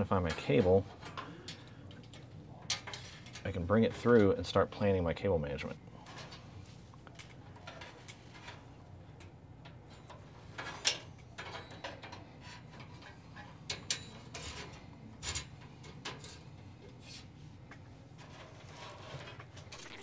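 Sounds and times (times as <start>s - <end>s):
cables clicking and tapping on rack: 0.0s - 4.6s, 6.0s - 18.5s.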